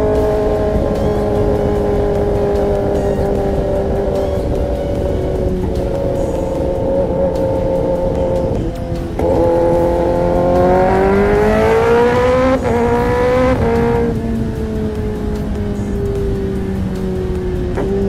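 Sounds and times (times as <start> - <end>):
motorcycle engine revving: 0.0 - 18.0
wind rush: 0.0 - 18.0.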